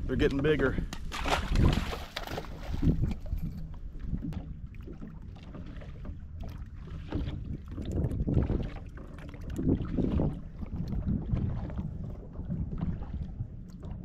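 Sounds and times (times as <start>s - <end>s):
boat engine rumble: 0.0s - 14.0s
water against hull: 0.0s - 14.0s
wind on microphone: 0.0s - 14.0s.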